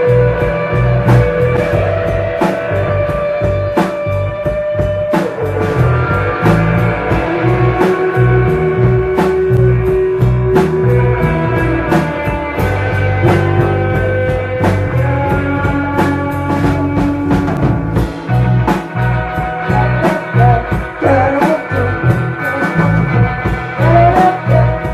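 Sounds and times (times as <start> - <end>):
instrumental rock band playing: 0.0 - 24.9.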